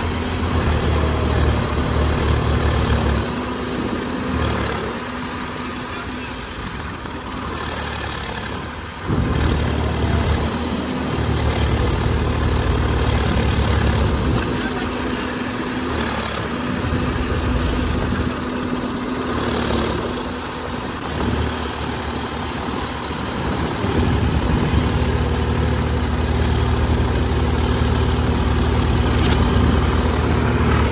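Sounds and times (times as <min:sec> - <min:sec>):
diesel tractor engines labouring: 0:00.0 - 0:30.9.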